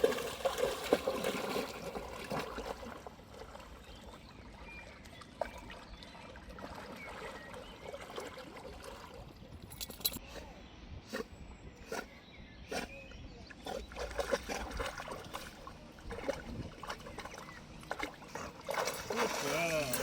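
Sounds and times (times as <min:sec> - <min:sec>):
stream water trickling and splashing: 0:00.0 - 0:10.2, 0:13.8 - 0:20.0.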